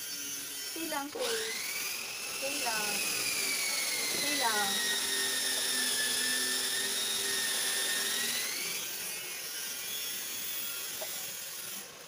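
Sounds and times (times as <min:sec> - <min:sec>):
electric clipper whine: 0:00.0 - 0:12.0.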